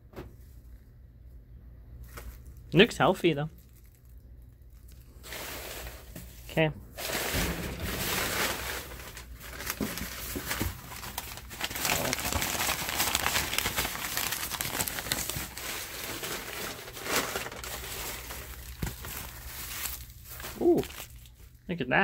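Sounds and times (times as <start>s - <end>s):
paper packing rustling and crinkling: 2.0s - 2.9s, 3.5s - 21.6s.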